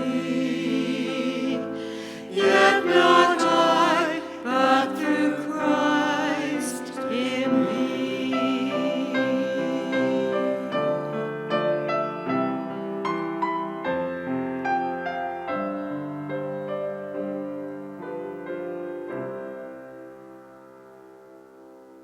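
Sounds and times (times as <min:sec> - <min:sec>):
slow piano notes and chords: 0:00.0 - 0:22.0.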